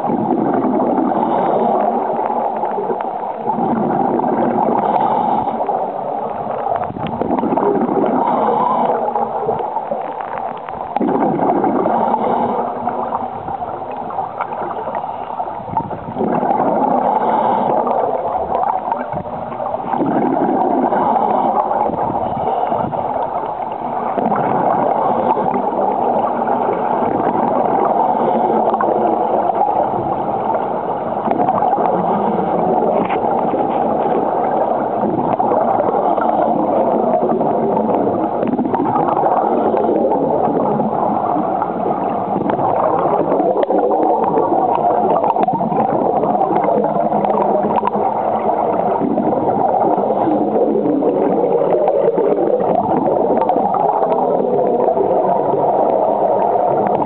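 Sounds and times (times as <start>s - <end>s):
underwater air bubbles gurgling: 0.0s - 57.0s.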